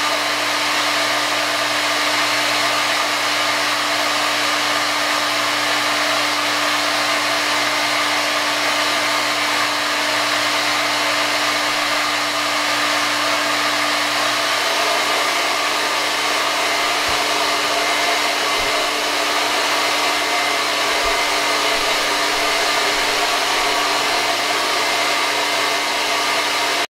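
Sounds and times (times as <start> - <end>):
hair dryer running: 0.0 - 26.9.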